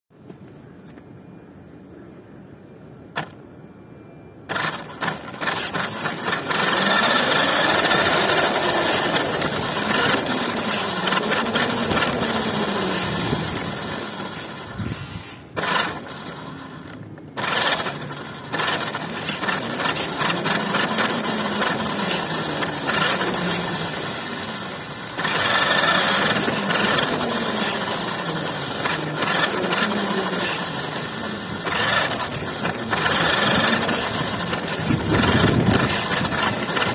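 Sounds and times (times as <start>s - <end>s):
toy car motor whining: 4.5s - 36.9s.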